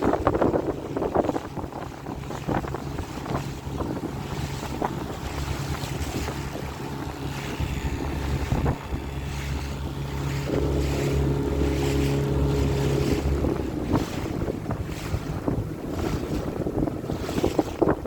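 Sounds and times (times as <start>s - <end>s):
higher hum: 0.0s - 18.0s
motorboat engine running: 0.0s - 18.0s
wind buffeting microphone: 0.0s - 18.0s.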